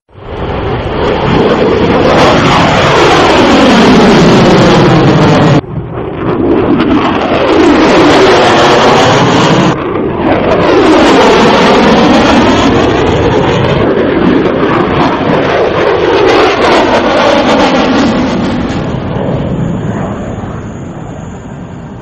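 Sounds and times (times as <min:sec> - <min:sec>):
jet flying past: 0:00.1 - 0:22.0.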